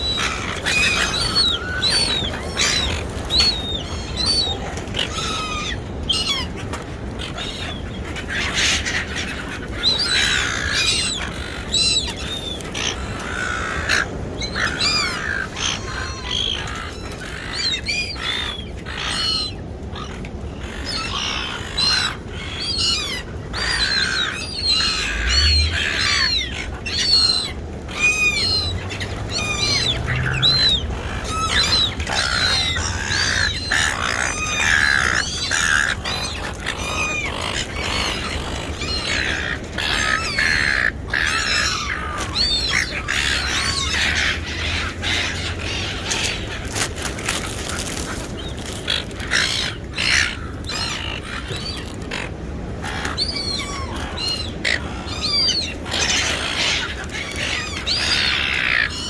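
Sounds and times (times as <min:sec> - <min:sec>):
seagulls calling: 0:00.0 - 0:59.0.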